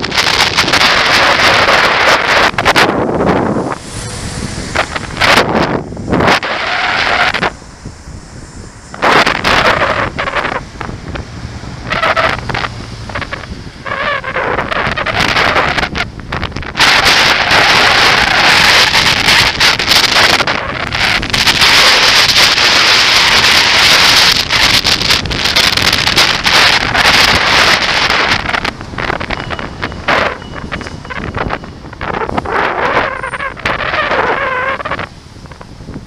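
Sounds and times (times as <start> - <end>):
road traffic: 0.0 - 36.0
wind buffeting microphone: 0.0 - 36.0.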